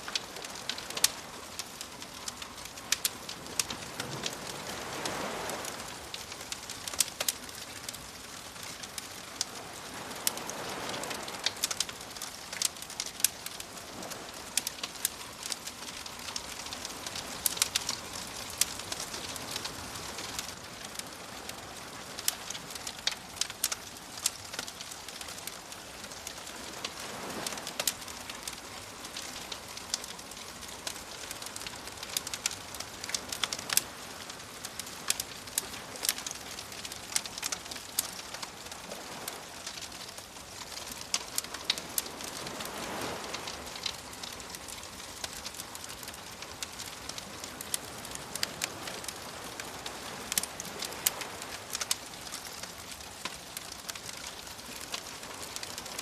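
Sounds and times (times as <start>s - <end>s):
bonfire crackling and popping: 0.0s - 56.0s
ocean waves washing in: 0.0s - 56.0s.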